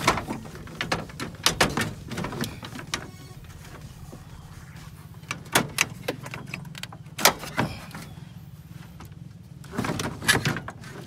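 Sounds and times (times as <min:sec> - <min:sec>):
radiator knocking and scraping: 0:00.0 - 0:11.0.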